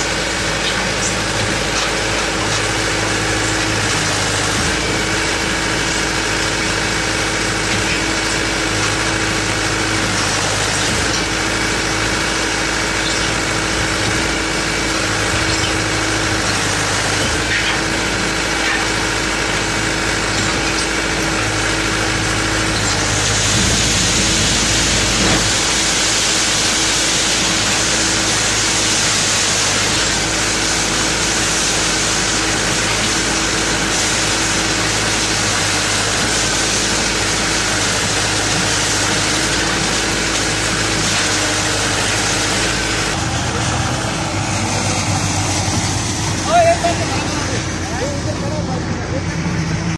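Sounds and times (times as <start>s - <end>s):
concrete pump machine hum: 0.0s - 49.9s.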